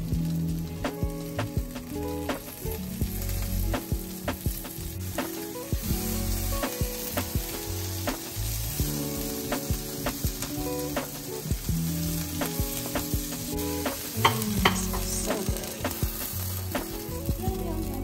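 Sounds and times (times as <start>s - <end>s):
background music with bass and clicks: 0.0s - 18.0s
food sizzling in a pan: 0.0s - 18.0s.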